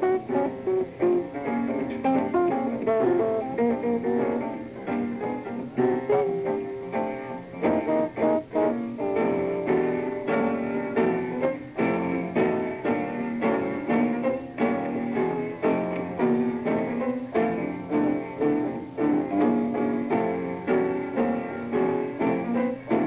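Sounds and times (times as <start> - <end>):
jazz guitar runs: 0.0 - 23.0
piano: 0.0 - 23.0
walking double bass: 0.0 - 23.0.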